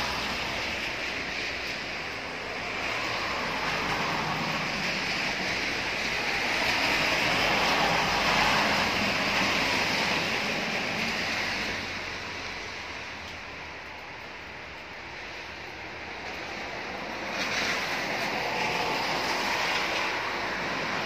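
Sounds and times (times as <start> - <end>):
tyres hissing on wet road: 0.0 - 21.0.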